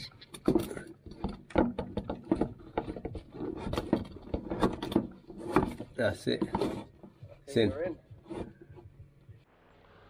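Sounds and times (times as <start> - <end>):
flue pipe knocking and scraping: 0.0 - 9.5.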